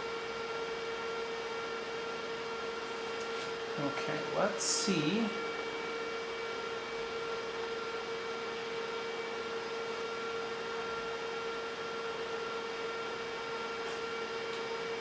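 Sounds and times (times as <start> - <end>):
cooling fans rushing hiss: 0.0 - 15.0
steady fan whine: 0.0 - 15.0.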